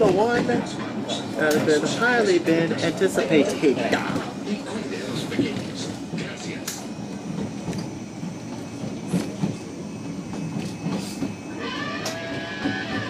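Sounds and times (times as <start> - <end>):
train rumbling: 0.0 - 13.0
wheels clacking on rails: 0.0 - 13.0.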